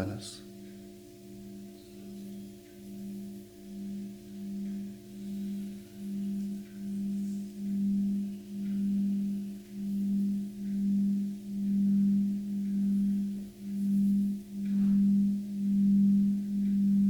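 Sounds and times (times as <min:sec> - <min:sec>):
singing bowl sustained low tone: 0:00.0 - 0:17.0.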